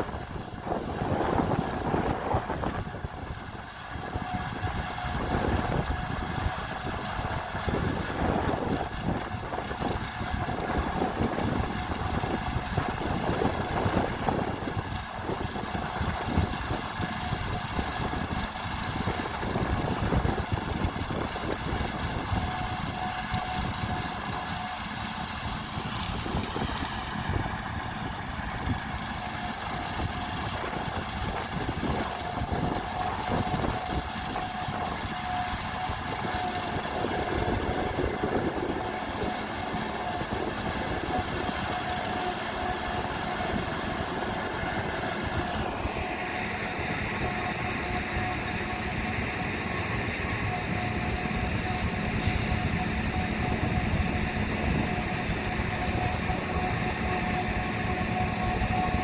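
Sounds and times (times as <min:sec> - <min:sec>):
harvest machinery running: 0:00.0 - 0:59.0
high machine whine: 0:00.0 - 0:59.0.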